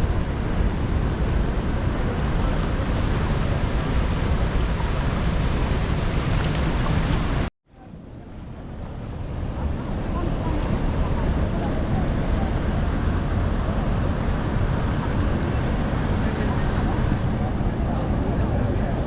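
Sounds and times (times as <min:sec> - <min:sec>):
waterfall roaring: 0:00.0 - 0:07.5, 0:09.4 - 0:19.0
wind on microphone: 0:00.0 - 0:19.0.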